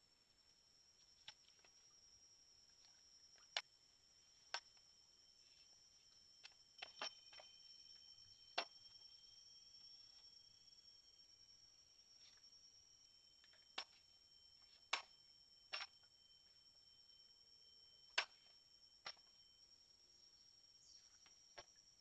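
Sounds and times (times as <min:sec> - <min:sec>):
faint high-pitched drone: 0:00.0 - 0:22.0.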